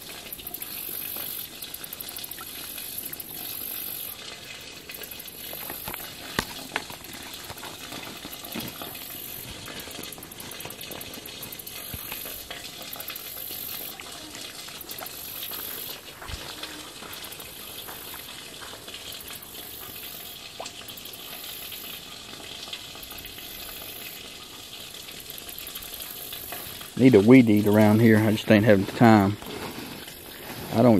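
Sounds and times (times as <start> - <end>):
steady outdoor hiss: 0.0 - 30.9.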